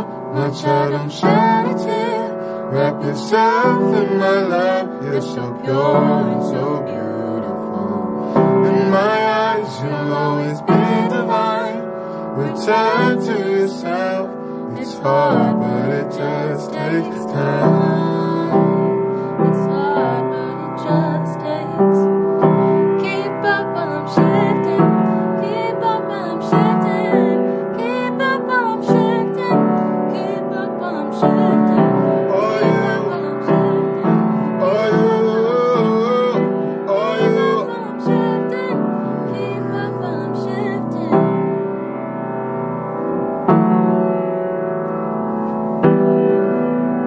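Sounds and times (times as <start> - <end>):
woman singing: 0.0 - 41.6
piano chords: 0.0 - 47.0.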